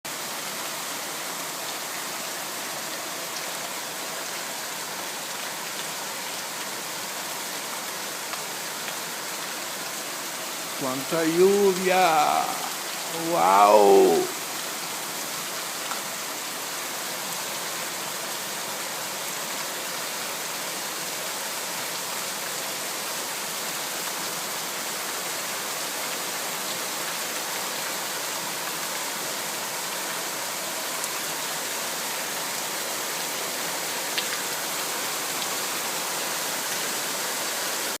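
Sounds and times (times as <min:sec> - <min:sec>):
heavy rain pouring: 0:00.1 - 0:38.0.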